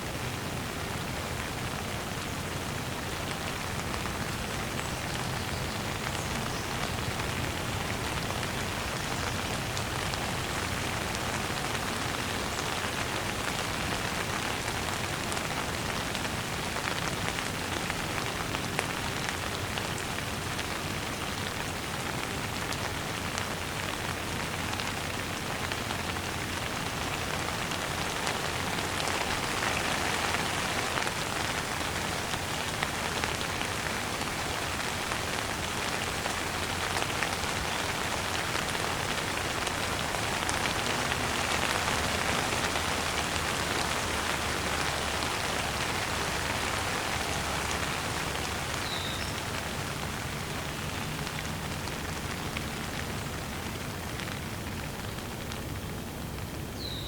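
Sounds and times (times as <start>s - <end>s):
rain patter on a surface: 0.0s - 57.0s.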